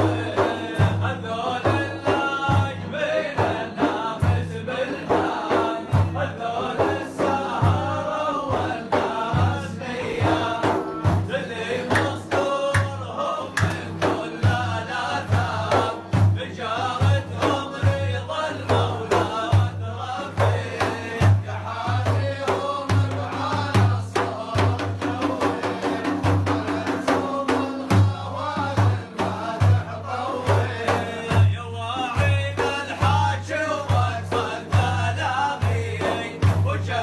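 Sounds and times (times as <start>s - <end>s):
man singing: 0.0s - 37.0s
steady drum beat: 0.0s - 37.0s.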